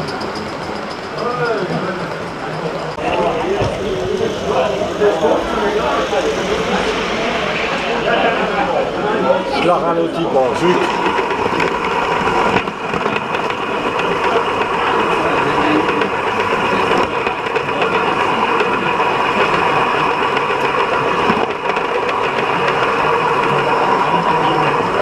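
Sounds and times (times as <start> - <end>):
model train wheels rattling on track: 0.0 - 7.2, 9.6 - 25.0
steady ringing tones: 0.0 - 25.0.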